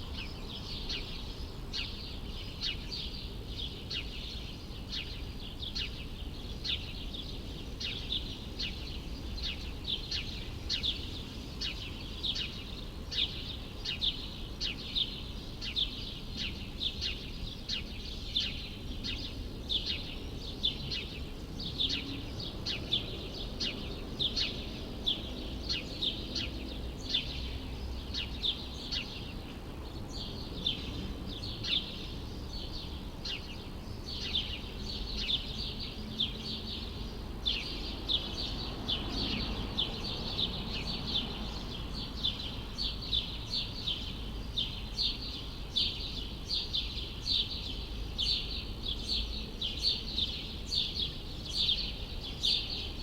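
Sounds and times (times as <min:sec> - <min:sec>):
bird chirping: 0:00.0 - 0:53.0
low city rumble: 0:00.0 - 0:53.0.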